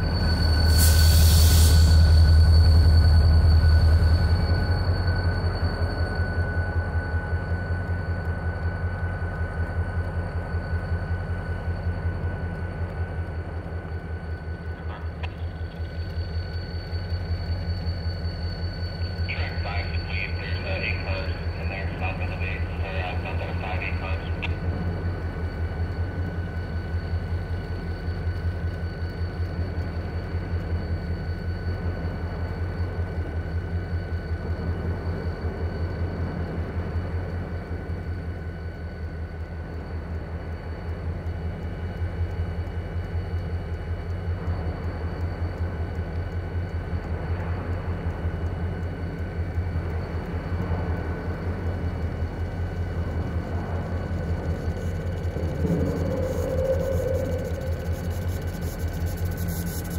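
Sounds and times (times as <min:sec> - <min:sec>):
locomotive engines idling: 0:00.0 - 0:59.9
thin steady whine: 0:00.0 - 0:59.9.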